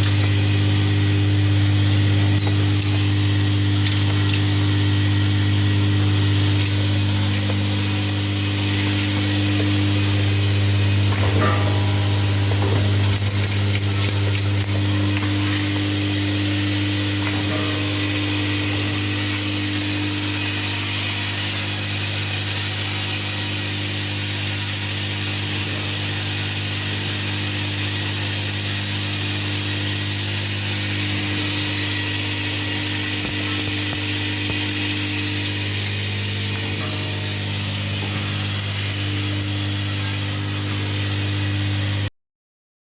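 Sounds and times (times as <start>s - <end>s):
bagging machine motor hum: 0.0s - 42.1s
machine hiss: 0.0s - 42.1s.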